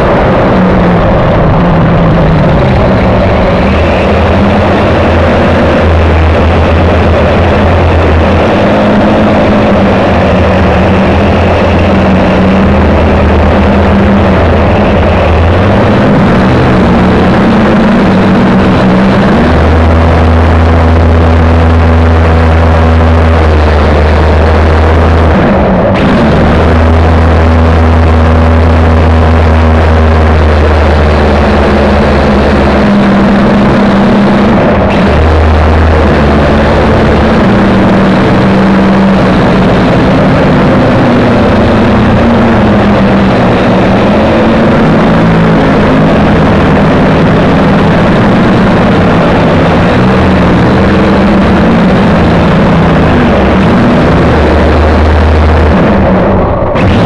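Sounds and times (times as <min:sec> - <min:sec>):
drone propellers whining: 0:00.0 - 0:57.0
heavy low rumble: 0:00.0 - 0:57.0.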